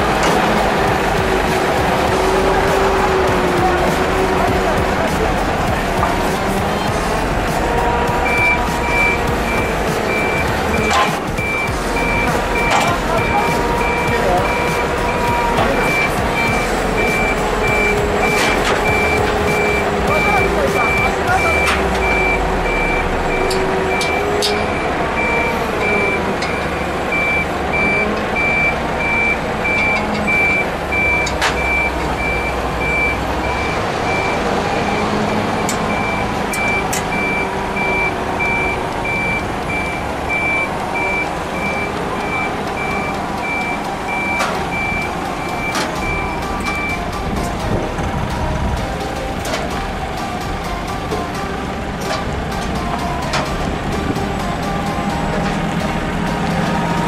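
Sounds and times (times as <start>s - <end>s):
forklift engine running: 0.0s - 57.0s
reversing alarm beeps: 7.8s - 57.0s.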